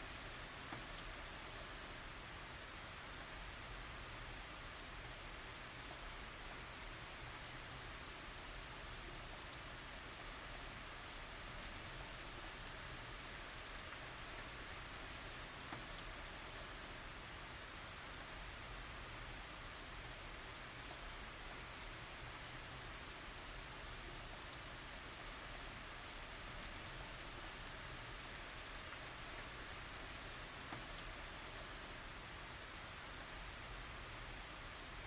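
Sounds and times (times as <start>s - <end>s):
rain falling on surfaces: 0.0s - 35.0s.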